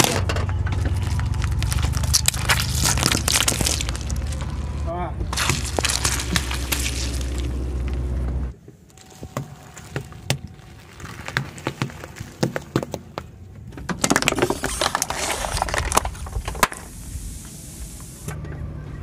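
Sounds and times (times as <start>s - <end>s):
fruit skins cracking under tyre: 0.0s - 16.9s
plastic bottle crunching under tyre: 0.0s - 16.9s.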